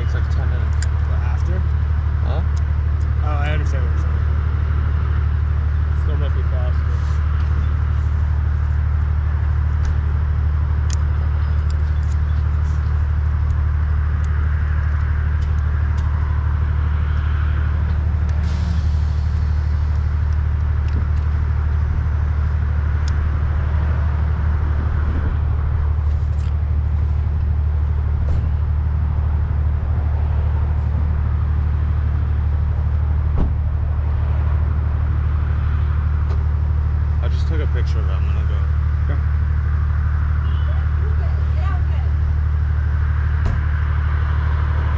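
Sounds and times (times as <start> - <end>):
low mechanical hum: 0.1 - 37.2.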